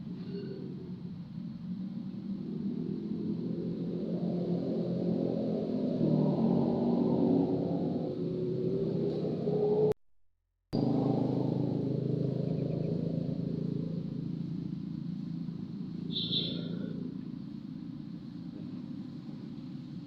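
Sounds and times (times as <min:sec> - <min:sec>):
vehicle engine rumble: 0:00.0 - 0:10.0, 0:10.8 - 0:20.0.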